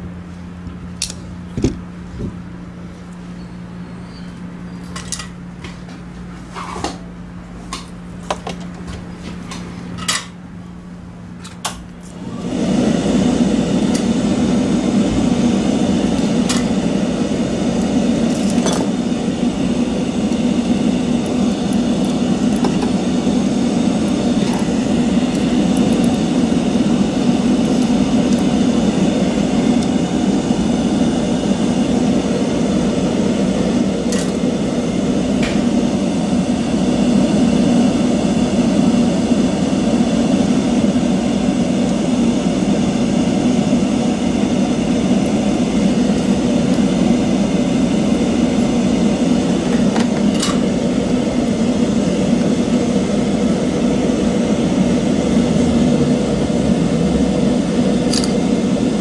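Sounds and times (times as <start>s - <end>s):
fan whirring: 0.0s - 59.0s.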